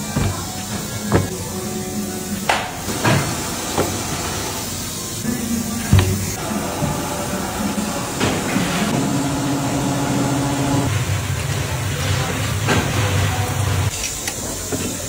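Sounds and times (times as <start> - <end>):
factory machinery humming: 0.0 - 15.0.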